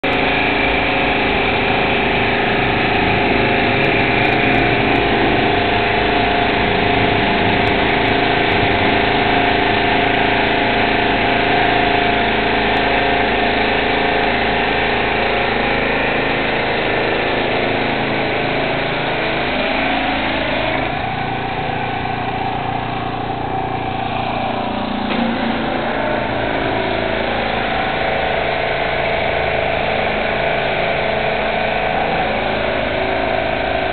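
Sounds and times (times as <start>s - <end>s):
pressure washer engine running: 0.0s - 33.9s
high-pressure spray hissing on concrete: 0.1s - 33.9s.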